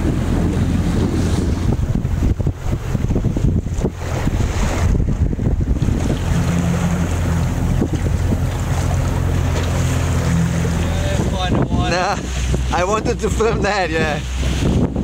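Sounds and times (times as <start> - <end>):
boat engine running: 0.0 - 15.0
water rushing along hull: 0.0 - 15.0
wind buffeting microphone: 0.0 - 15.0.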